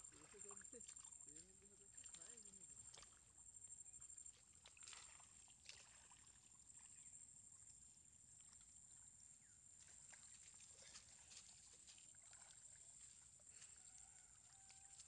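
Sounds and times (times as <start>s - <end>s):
small water splashes: 0.0s - 15.0s
water sloshing and dripping: 0.0s - 15.0s.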